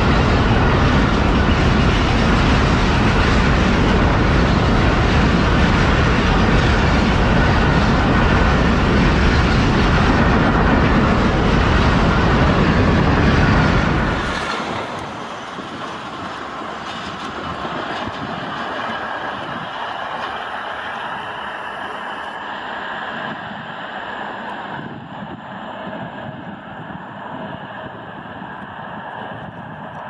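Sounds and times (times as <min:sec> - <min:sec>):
train rumbling and rattling: 0:00.0 - 0:30.0.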